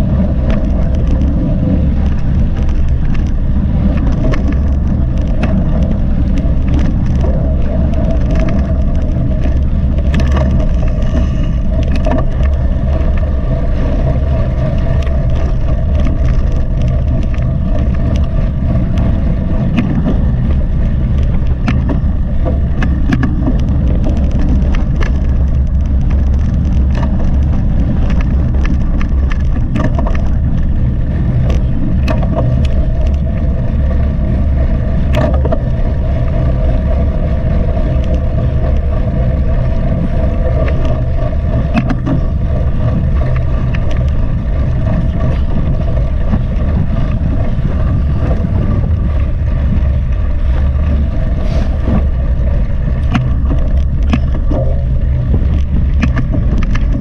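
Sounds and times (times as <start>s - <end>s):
bike clicks and rattles: 0.0s - 57.0s
steady hum: 0.0s - 57.0s
wind buffeting microphone: 0.0s - 57.0s.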